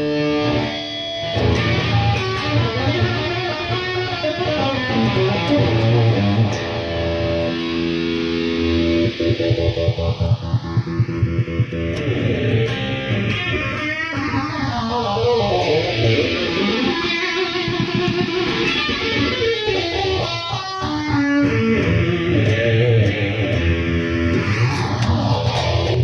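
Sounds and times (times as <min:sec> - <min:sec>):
amplified electric guitar: 0:00.0 - 0:26.0.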